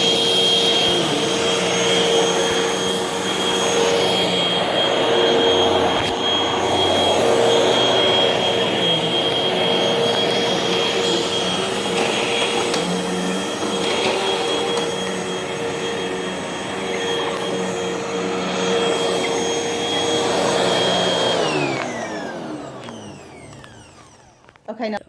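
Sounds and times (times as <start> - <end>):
vacuum cleaner motor running: 0.0 - 24.7.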